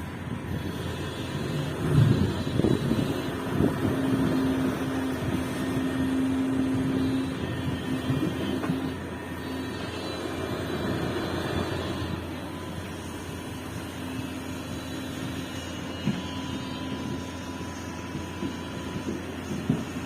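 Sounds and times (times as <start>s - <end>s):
excavator diesel engine under load: 0.0s - 20.0s
hydraulic whine: 0.0s - 20.0s.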